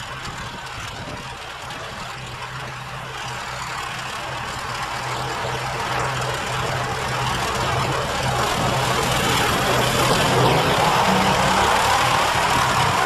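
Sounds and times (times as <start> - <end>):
snowblower engine running: 0.0 - 13.0.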